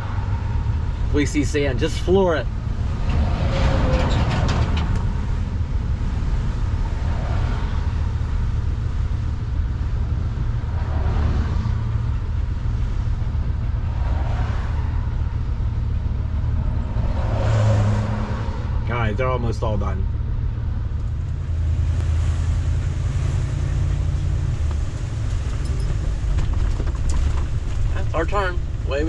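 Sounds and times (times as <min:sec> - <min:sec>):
vehicles passing close by: 0:00.0 - 0:29.0.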